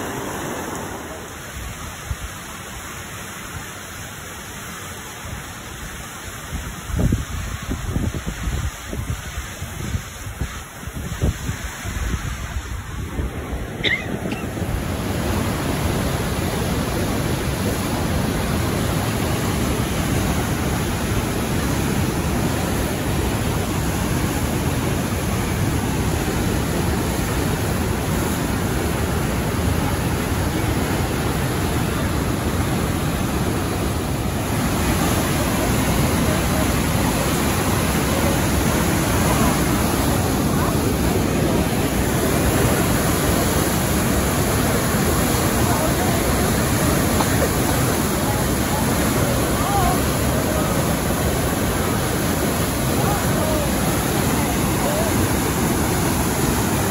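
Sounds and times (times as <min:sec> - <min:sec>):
whitewater river rushing: 0:00.0 - 0:56.9.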